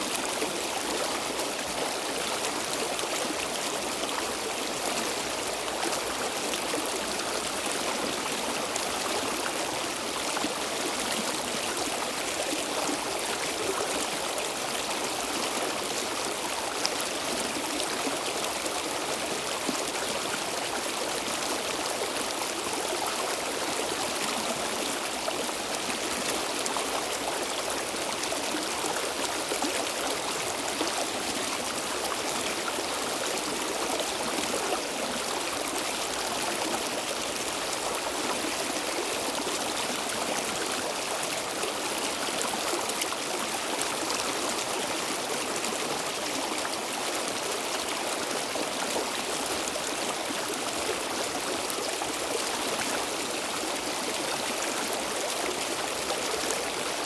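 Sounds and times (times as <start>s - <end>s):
stream of water babbling: 0.0s - 57.0s.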